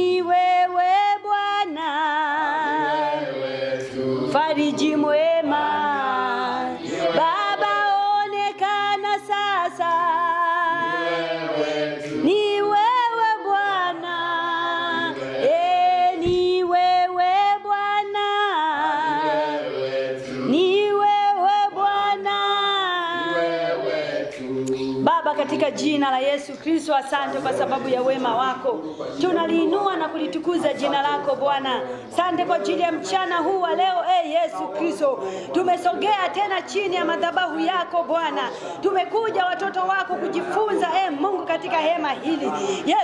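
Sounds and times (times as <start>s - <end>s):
woman singing unaccompanied: 0.0s - 3.3s, 4.3s - 11.0s, 12.1s - 19.4s, 20.4s - 23.4s, 25.0s - 43.0s.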